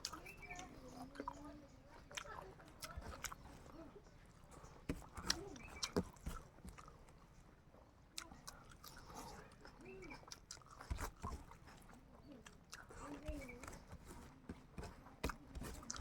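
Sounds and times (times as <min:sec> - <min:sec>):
people chewing: 0:00.0 - 0:16.0.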